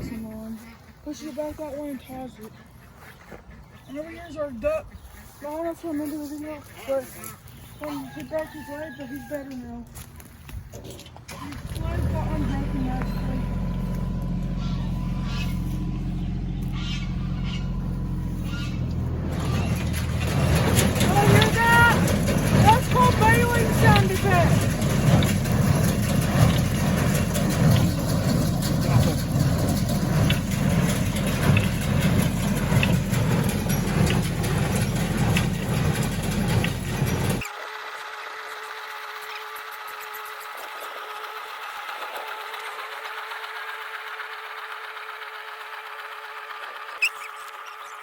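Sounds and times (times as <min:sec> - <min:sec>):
tractor engine running: 0:00.0 - 0:48.0
hay baler clicking: 0:03.9 - 0:48.0.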